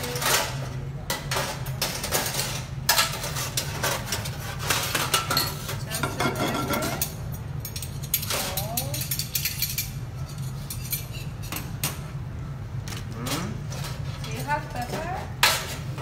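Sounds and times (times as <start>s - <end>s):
utensils clinking against pans: 0.0s - 12.2s, 12.8s - 16.0s.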